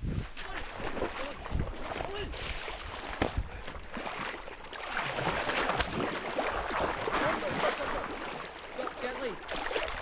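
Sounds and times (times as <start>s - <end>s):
pond water splashing: 0.0s - 10.0s.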